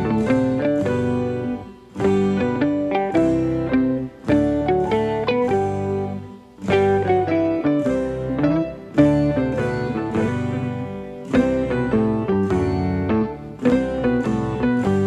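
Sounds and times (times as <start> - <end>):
plucked guitar notes: 0.0 - 15.0.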